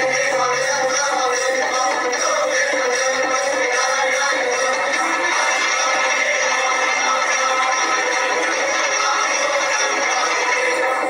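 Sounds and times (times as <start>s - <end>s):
recorded dance music: 0.0s - 11.0s.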